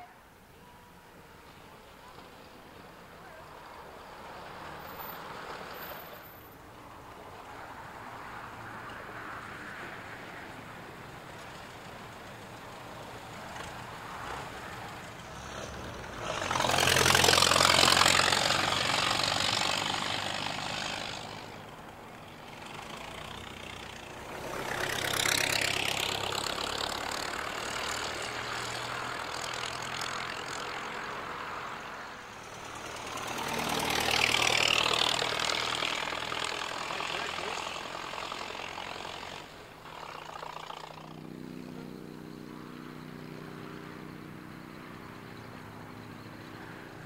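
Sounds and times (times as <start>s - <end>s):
vintage car engines passing by: 0.0s - 47.0s.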